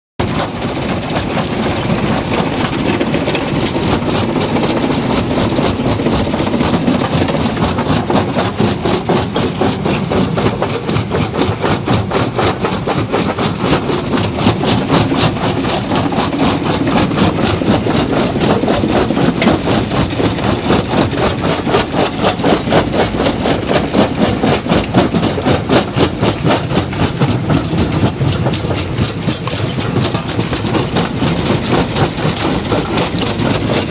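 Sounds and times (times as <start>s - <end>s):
stone crusher clattering: 0.2s - 33.9s.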